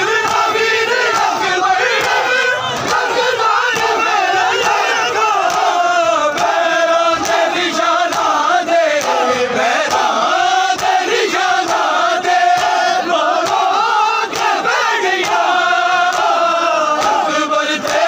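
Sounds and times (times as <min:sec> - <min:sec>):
crowd of men chanting: 0:00.0 - 0:18.0.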